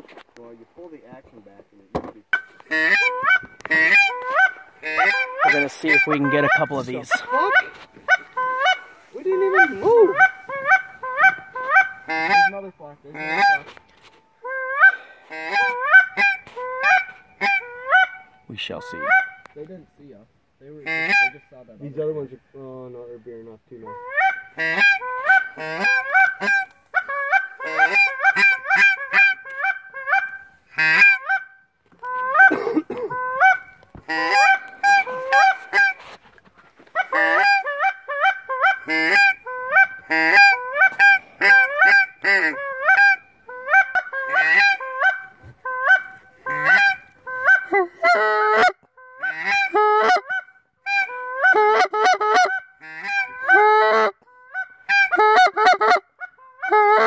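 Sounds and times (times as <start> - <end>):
goose honking: 2.3 - 19.6, 20.7 - 21.5, 23.8 - 36.2, 36.8 - 57.0.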